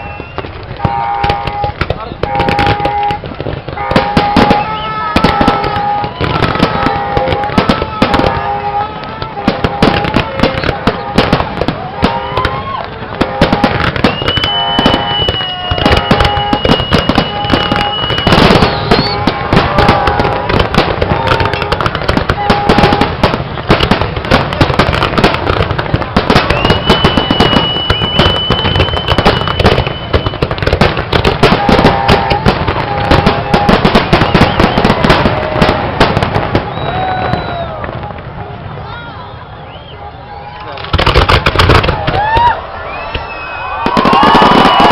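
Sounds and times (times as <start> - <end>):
firework whistle: 0.0 - 38.0, 39.0 - 44.9
fireworks bangs and crackles: 0.0 - 44.9.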